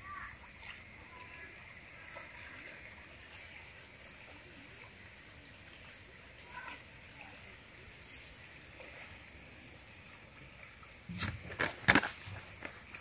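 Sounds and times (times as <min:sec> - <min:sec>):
person wading through water: 0:00.0 - 0:11.5
steady outdoor hiss: 0:00.0 - 0:13.0.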